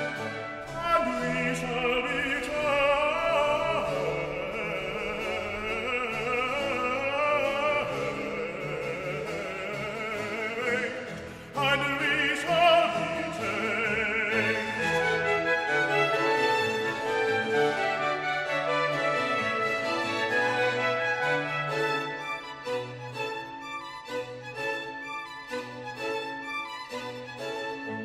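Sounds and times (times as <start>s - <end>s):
operatic classical music: 0.0s - 28.0s.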